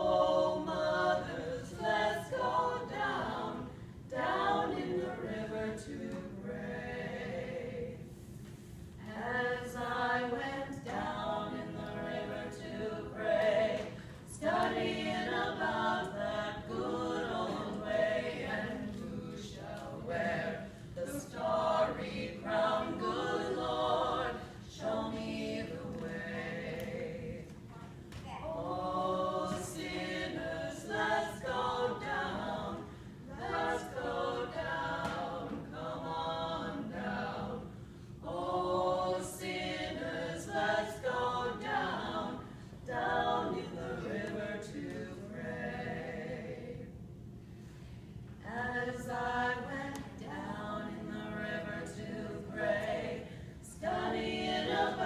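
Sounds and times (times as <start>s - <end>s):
mixed choir singing: 0.0s - 8.2s, 9.0s - 27.7s, 28.4s - 47.0s, 48.4s - 55.0s.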